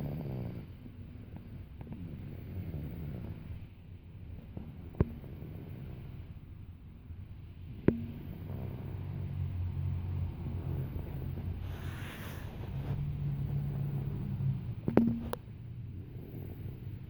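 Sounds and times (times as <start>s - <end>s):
low rumbling snoring: 0.0s - 3.7s, 4.3s - 6.4s, 7.7s - 17.0s.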